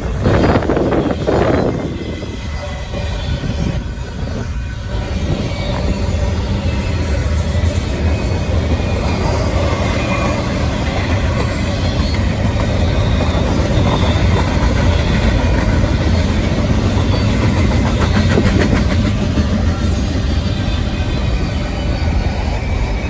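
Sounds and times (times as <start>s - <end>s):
diesel locomotive engine rumbling: 0.0s - 23.0s.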